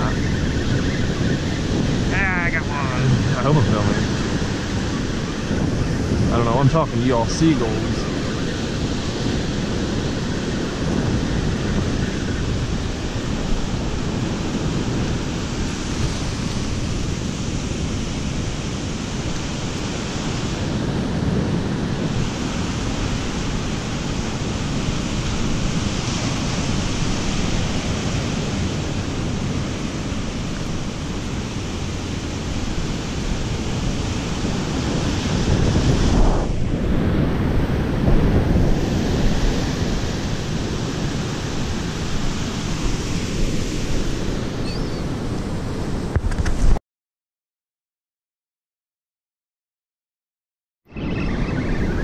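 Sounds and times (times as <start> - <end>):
ocean surf washing onto beach: 0.0 - 46.5
wind buffeting microphone: 0.0 - 46.8, 50.9 - 52.0.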